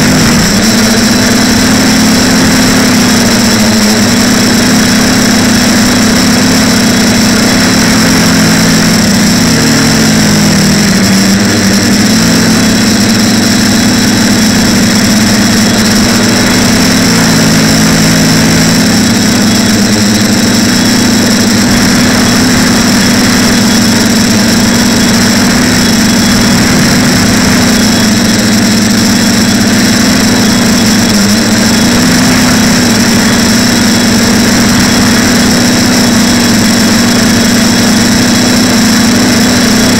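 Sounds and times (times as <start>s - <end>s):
drone motors humming: 0.0s - 39.9s
high whine: 0.0s - 39.9s.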